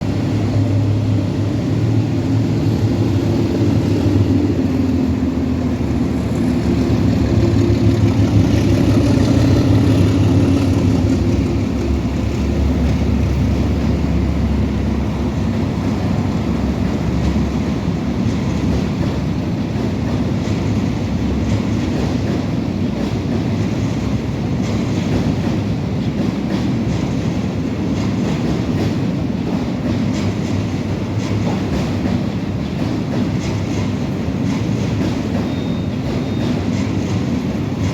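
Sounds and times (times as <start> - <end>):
diesel train running by: 0.0 - 37.9.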